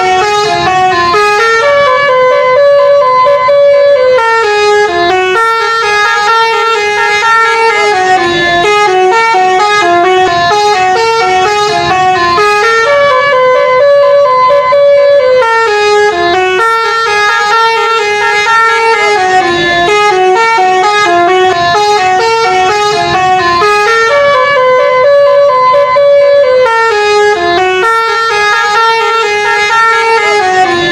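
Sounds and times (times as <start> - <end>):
musical air horn melody: 0.0 - 30.9.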